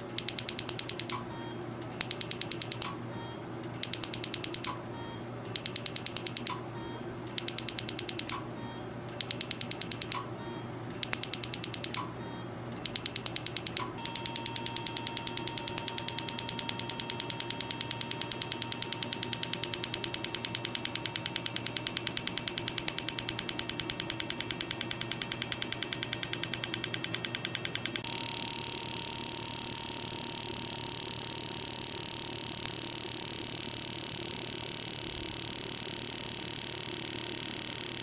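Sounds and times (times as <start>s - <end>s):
rapid mechanical clicking: 0.0s - 38.0s.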